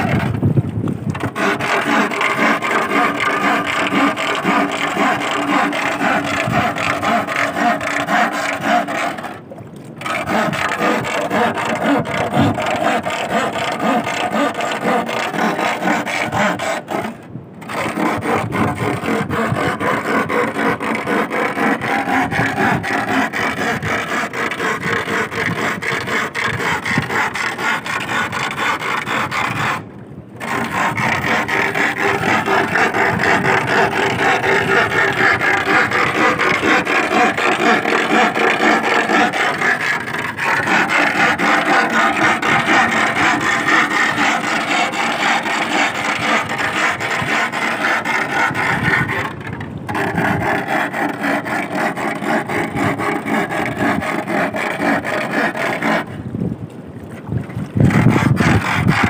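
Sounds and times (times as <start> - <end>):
iron bar rasping against wood: 0.0 - 0.4, 1.1 - 9.4, 10.0 - 29.8, 30.4 - 56.1, 57.8 - 59.0.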